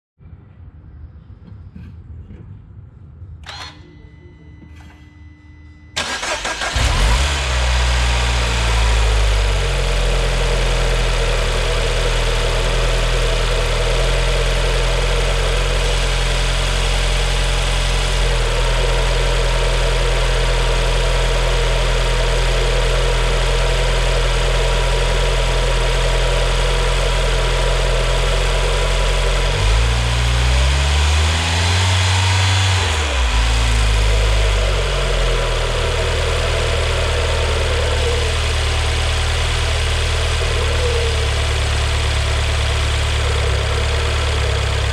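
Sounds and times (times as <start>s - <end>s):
car engine starting and idling: 3.4s - 4.2s, 5.9s - 44.9s.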